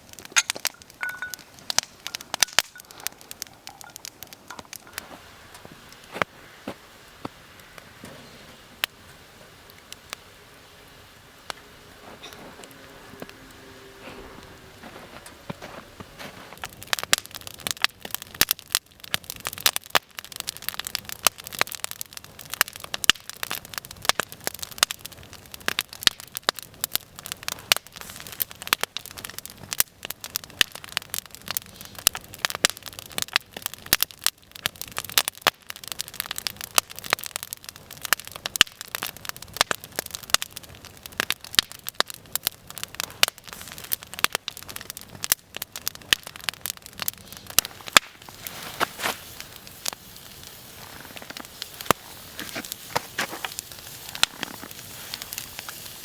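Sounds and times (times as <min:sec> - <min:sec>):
sharp fire pops: 0:00.0 - 0:10.2, 0:14.5 - 0:56.0
wood fire crackling: 0:00.0 - 0:56.0.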